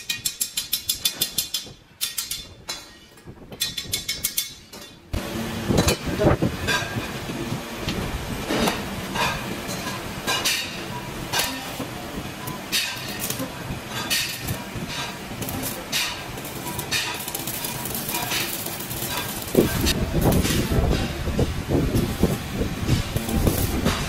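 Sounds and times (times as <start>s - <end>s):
welding arc sizzling: 3.7s - 24.0s.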